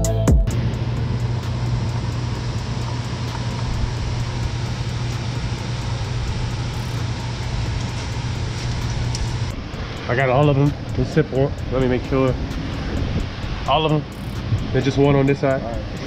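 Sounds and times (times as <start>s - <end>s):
constant low hum: 0.0s - 16.0s
even hiss: 0.5s - 16.0s.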